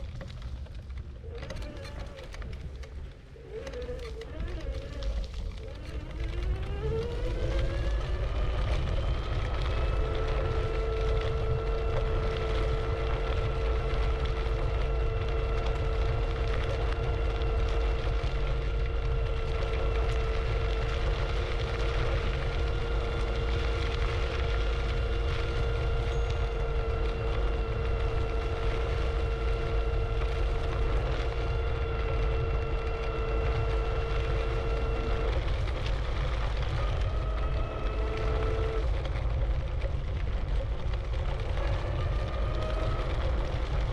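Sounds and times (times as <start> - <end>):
e-scooter motor whining: 0.0 - 39.9, 41.1 - 43.9
low rumble: 0.0 - 43.9.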